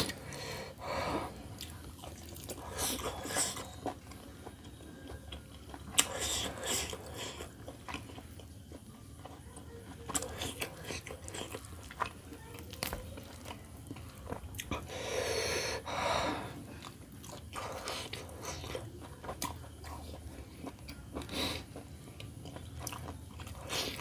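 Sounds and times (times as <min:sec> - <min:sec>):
person chewing meat: 0:00.0 - 0:24.0.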